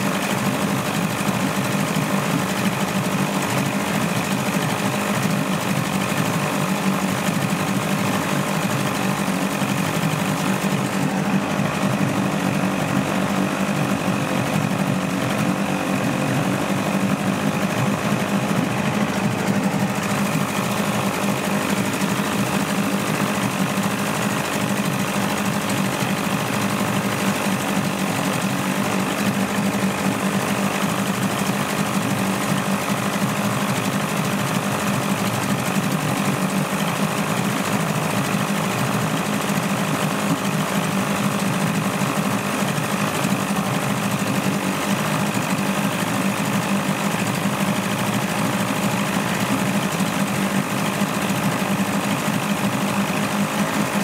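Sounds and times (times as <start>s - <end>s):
outboard motor clattering: 0.0s - 54.0s.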